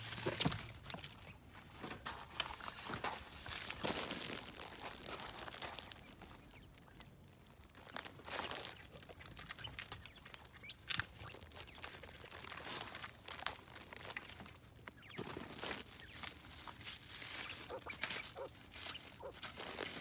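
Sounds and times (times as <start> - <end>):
rustling in dry leaves: 0.0 - 20.0
scuffles in leaves: 1.6 - 10.3, 10.9 - 20.0.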